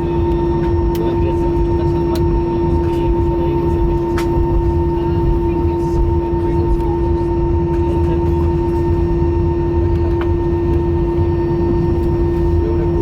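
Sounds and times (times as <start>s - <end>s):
airliner cabin drone: 0.0s - 13.0s
high steady whine: 0.0s - 13.0s.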